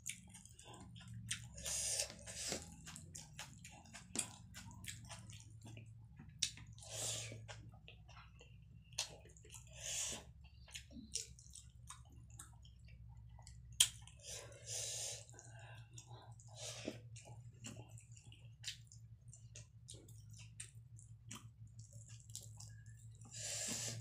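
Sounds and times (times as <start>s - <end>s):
close chewing: 0.0s - 24.0s.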